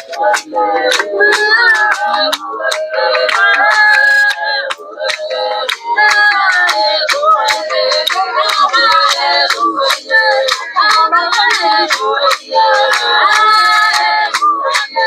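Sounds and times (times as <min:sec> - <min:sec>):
group of voices singing: 0:00.0 - 0:15.0
hand claps: 0:00.0 - 0:15.0.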